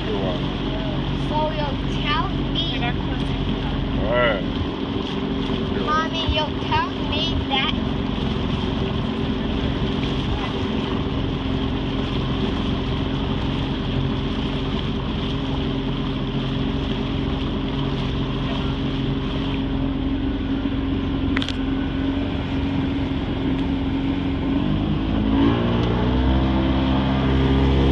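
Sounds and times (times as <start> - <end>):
motorboat engine running: 0.0 - 27.9
rushing water: 0.0 - 27.9
wind: 0.0 - 27.9.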